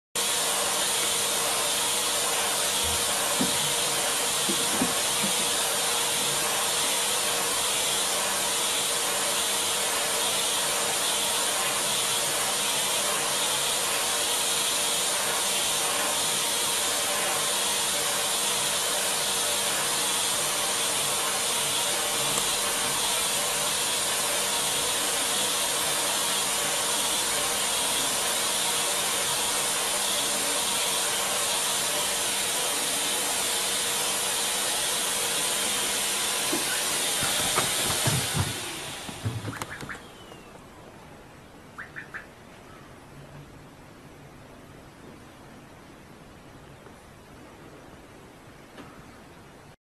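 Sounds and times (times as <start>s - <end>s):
vacuum cleaner running: 0.2s - 41.0s.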